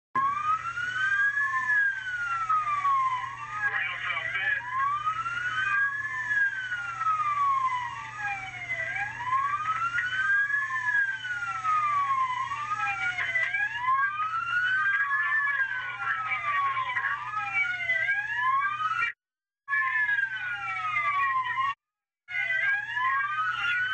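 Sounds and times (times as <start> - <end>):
police sirens wailing: 0.2 - 23.9.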